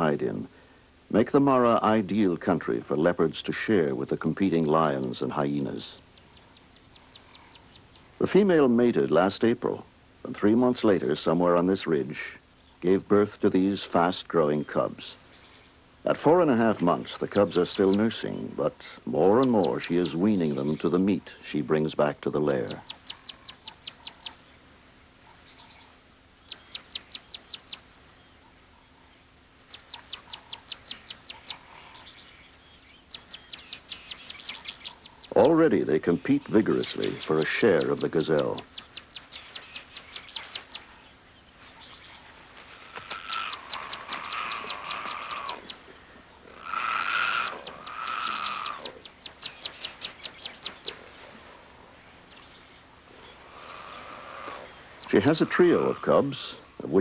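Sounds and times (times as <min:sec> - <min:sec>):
buzzy bird calls: 0:01.2 - 0:57.0.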